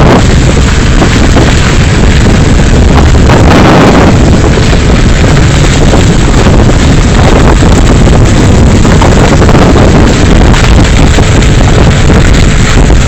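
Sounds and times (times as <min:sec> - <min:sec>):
vehicle rumbling on rough road: 0:00.0 - 0:13.0
wind buffeting microphone: 0:00.0 - 0:13.0.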